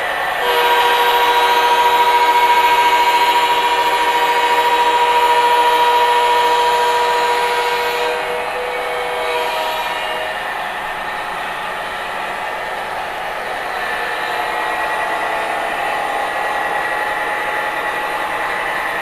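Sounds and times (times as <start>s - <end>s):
model diesel locomotive whine: 0.0s - 19.0s.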